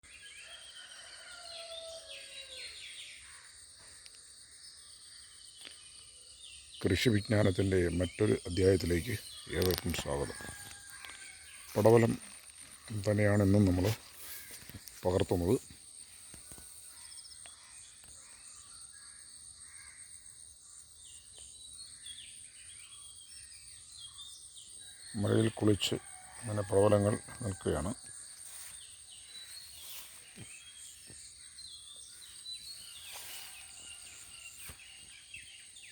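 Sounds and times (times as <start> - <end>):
birds chirping: 0.0 - 19.2, 20.8 - 35.9
insect buzz: 0.5 - 35.9.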